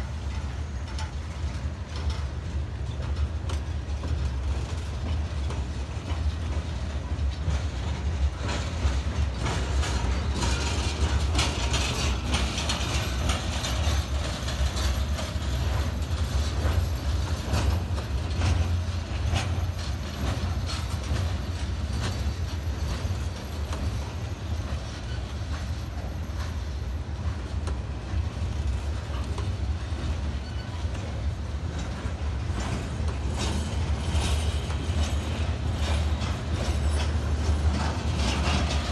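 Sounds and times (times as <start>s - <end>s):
clicks and clanks over rail joints: 0.0s - 38.9s
rumble of steel wheels: 0.0s - 38.9s.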